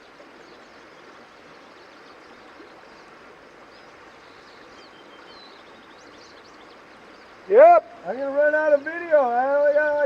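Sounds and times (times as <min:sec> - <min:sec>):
small birds chirping: 0:00.0 - 0:10.0
steady background hiss: 0:00.0 - 0:10.0.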